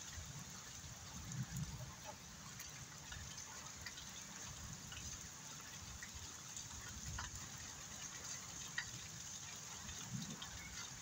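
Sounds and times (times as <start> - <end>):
rain on muddy ground: 0.0 - 11.0.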